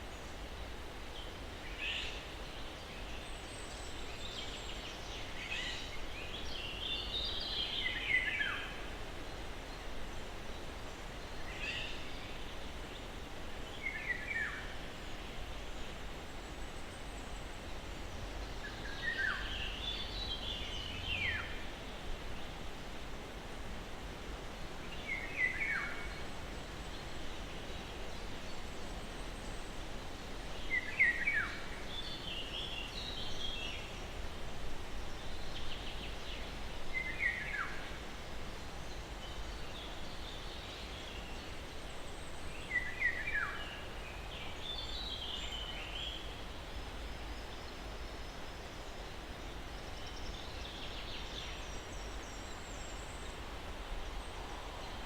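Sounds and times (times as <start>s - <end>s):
breeze in pine trees: 0.0s - 55.0s
songbirds calling: 0.0s - 55.0s.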